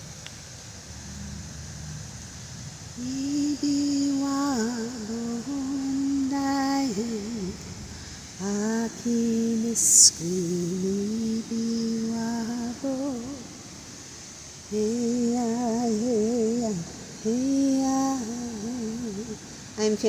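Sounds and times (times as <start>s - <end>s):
sharp hiss: 0.0s - 20.0s
woman humming a wordless chant: 2.9s - 13.7s, 14.6s - 20.0s.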